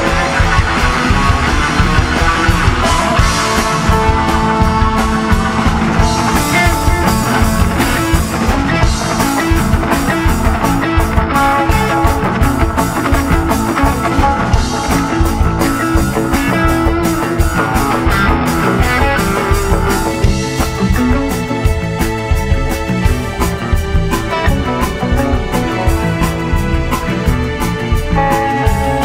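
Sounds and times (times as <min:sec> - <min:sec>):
drum kit beat: 0:00.0 - 0:29.0
electric guitars: 0:00.0 - 0:29.0
keyboards: 0:00.0 - 0:29.0.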